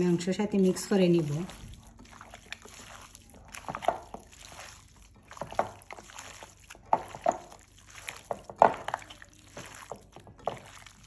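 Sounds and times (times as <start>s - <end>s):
wet squelching of meat mixed by hand: 0.0s - 11.0s.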